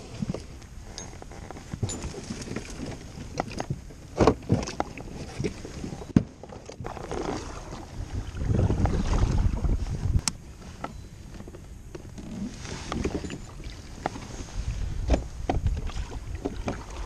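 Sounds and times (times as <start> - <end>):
kayak knocks and scrapes: 0.0 - 17.0.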